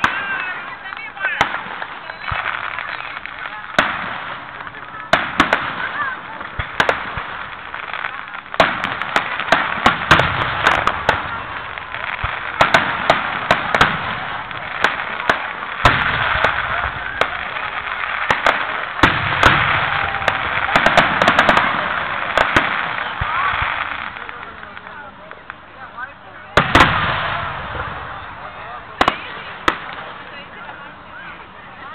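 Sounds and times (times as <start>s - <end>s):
fireworks bursting with sharp bangs: 0.0s - 31.9s.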